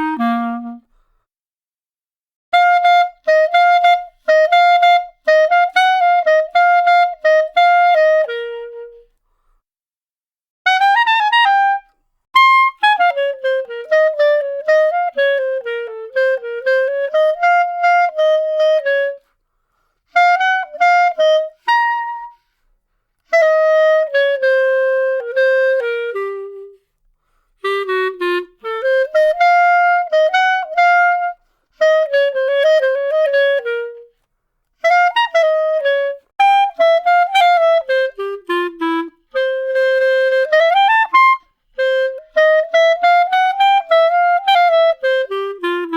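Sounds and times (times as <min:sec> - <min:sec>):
solo clarinet melody: 0:00.0 - 0:01.1, 0:02.5 - 0:09.2, 0:10.6 - 0:19.4, 0:20.1 - 0:45.9.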